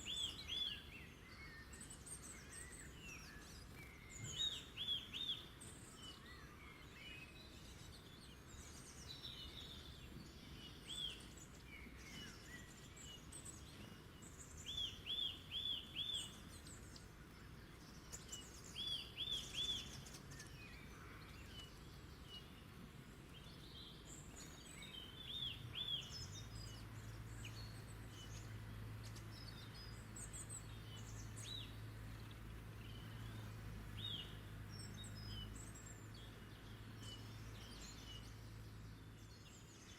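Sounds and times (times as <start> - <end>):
low steady hum: 0.0 - 39.9
wild birds singing and chirping: 0.0 - 39.9.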